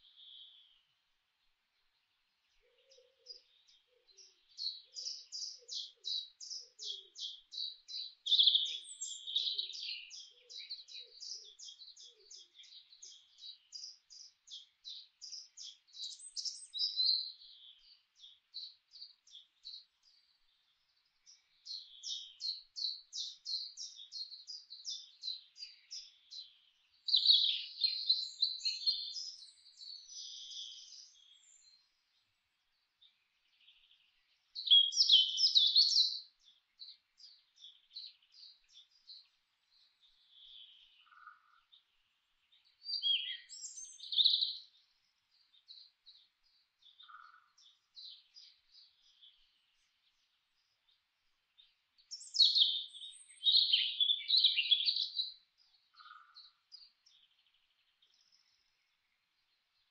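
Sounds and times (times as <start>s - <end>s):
birdsong with fast chirps: 0.0s - 59.9s.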